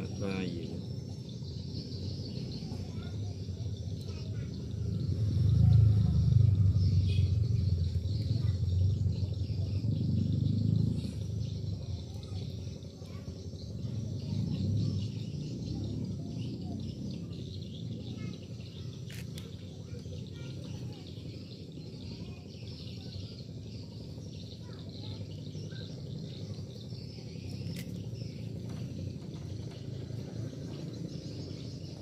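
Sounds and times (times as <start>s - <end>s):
birds chirping: 0.0s - 32.0s
constant low hum: 0.0s - 32.0s
insects chirping: 0.0s - 32.0s.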